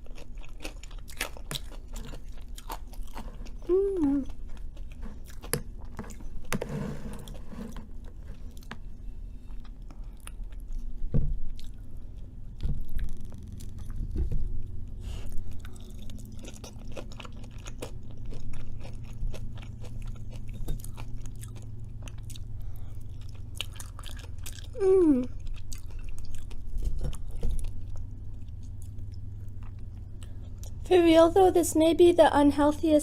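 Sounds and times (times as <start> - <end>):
person chewing food: 0.0 - 30.8.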